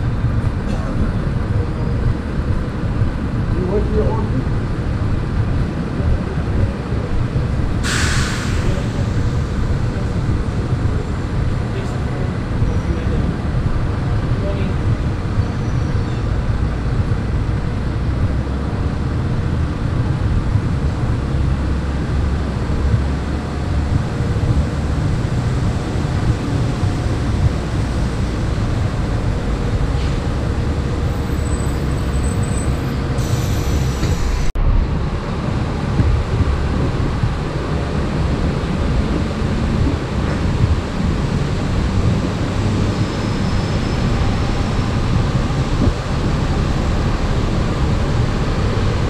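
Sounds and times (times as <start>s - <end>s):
low rumble of street traffic: 0.0s - 49.0s.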